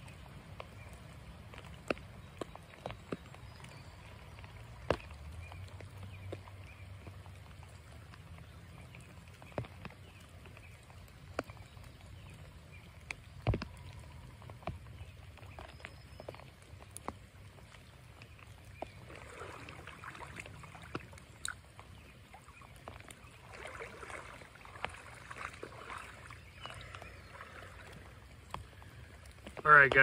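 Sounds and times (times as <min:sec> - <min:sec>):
rain falling on creek: 0:00.0 - 0:30.0.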